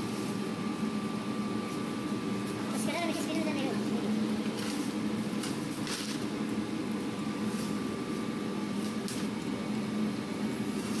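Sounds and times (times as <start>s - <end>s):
bakery machinery humming: 0.0s - 11.0s.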